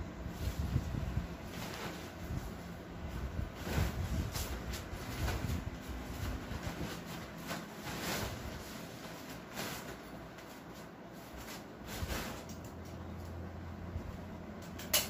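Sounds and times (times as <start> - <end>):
low steady hum: 0.0 - 15.0
soft rustles: 0.2 - 12.6.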